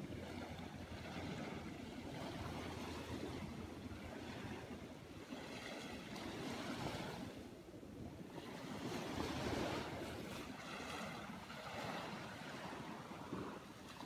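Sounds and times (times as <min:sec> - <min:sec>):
ocean waves breaking on sand: 0:00.0 - 0:14.0
wind on microphone: 0:00.0 - 0:14.0.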